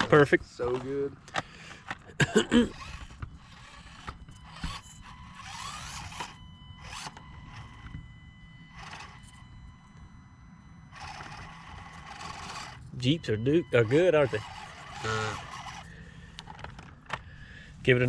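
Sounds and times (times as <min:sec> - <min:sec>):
small electric motor whirring: 0:02.7 - 0:17.2.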